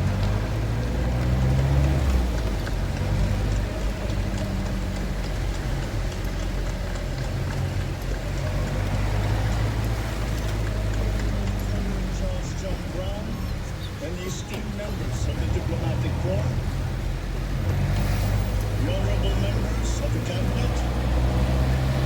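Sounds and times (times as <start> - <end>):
car engine and road noise: 0.0 - 22.0
rain on car: 0.0 - 22.0.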